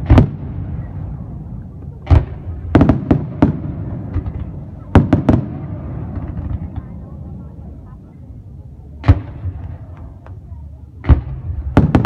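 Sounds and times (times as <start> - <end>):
fireworks bangs: 0.0 - 7.7, 9.0 - 12.0.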